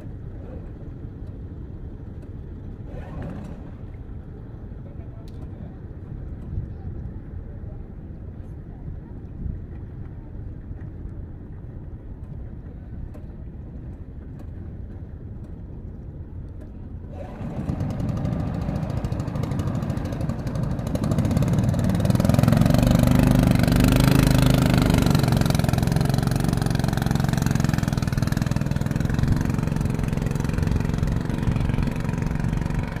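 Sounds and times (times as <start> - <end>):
small boat engine running: 0.0 - 33.0
steady low hum: 0.0 - 33.0.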